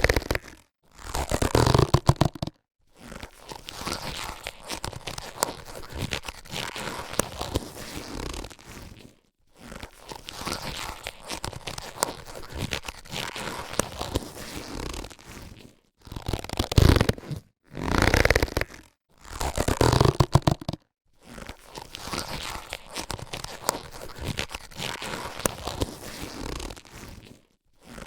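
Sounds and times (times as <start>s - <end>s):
latex gloves rubbing and stretching: 0.0s - 28.0s.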